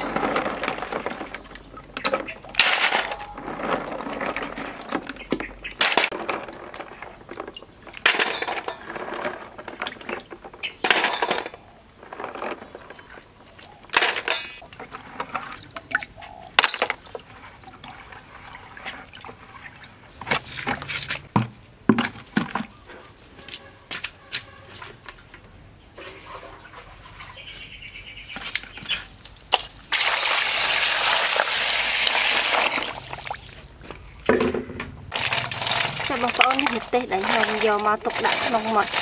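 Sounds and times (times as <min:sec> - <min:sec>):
water sloshing in bucket: 0:00.0 - 0:11.4, 0:12.0 - 0:21.4, 0:26.0 - 0:27.6, 0:28.4 - 0:39.0.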